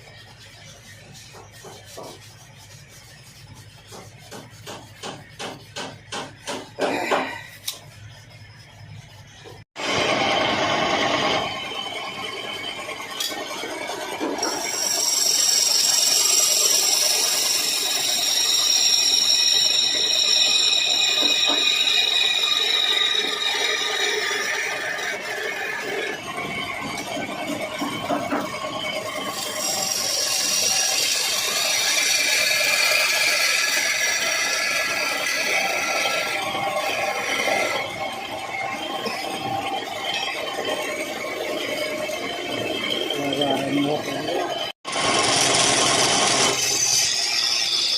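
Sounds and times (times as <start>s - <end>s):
chisel scraping spinning wood: 0.0s - 47.9s
high-pitched tool squeal: 0.0s - 47.9s.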